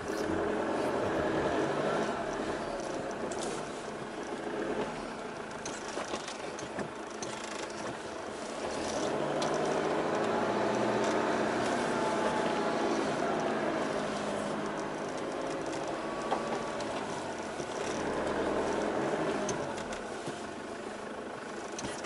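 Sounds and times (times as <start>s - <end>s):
vehicle engine driving on sand: 0.0s - 22.0s.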